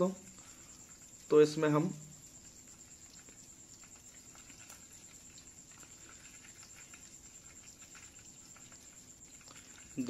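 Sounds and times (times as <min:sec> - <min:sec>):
hot butter crackling: 0:00.0 - 0:10.0.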